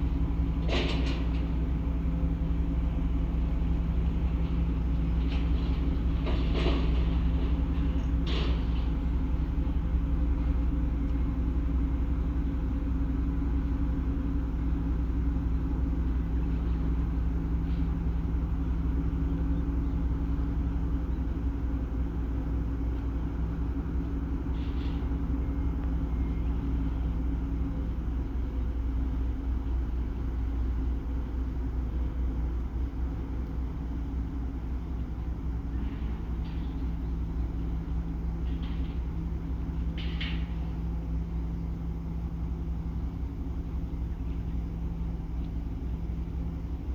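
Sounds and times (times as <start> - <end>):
ferry engines rumbling: 0.0 - 46.9.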